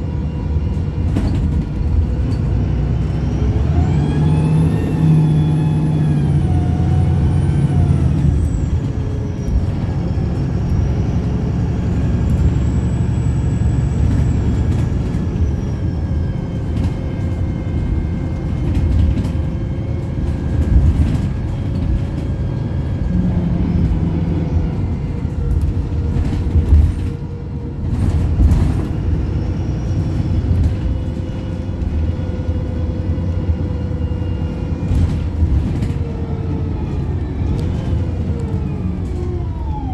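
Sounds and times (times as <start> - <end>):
bus engine revving: 0.0 - 39.9.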